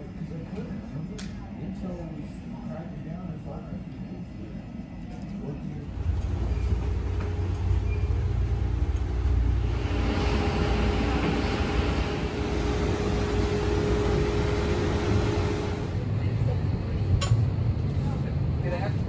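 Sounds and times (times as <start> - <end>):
low mechanical rumble: 0.1 - 19.0.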